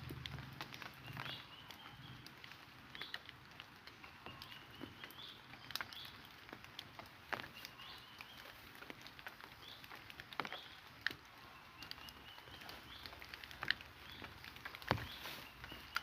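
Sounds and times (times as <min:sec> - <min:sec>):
twigs and leaves crackling: 0:00.0 - 0:16.0.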